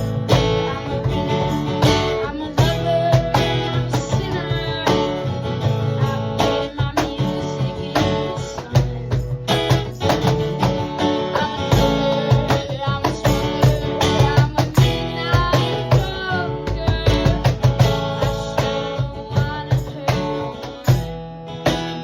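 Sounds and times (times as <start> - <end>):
bass line: 0.0 - 19.6
strummed guitar: 0.0 - 22.0.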